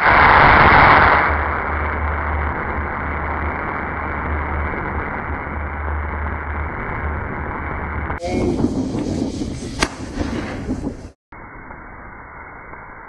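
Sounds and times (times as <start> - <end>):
sharp crack: 0.0 - 8.3, 8.9 - 11.8
wind noise on microphone: 0.0 - 11.2.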